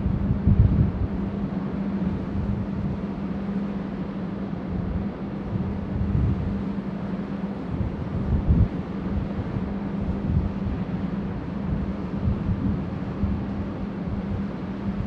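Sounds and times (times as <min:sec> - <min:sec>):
wind buffeting microphone: 0:00.0 - 0:03.2, 0:04.7 - 0:06.8, 0:07.6 - 0:15.0
ship low hum: 0:00.0 - 0:15.0.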